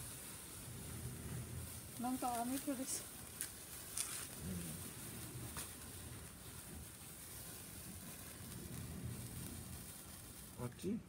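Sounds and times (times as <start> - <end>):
sharp sparkler crackles: 0.0 - 11.0
sparklers fizzing: 0.0 - 11.0.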